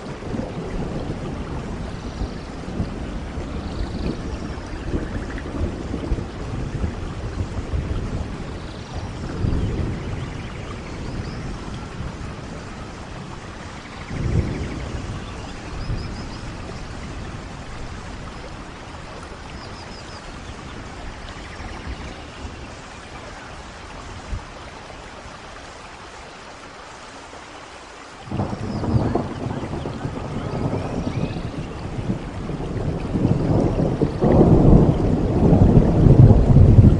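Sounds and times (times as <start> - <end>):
rolling thunder: 0.0 - 25.4, 28.3 - 36.9
steady rain falling: 0.0 - 36.9.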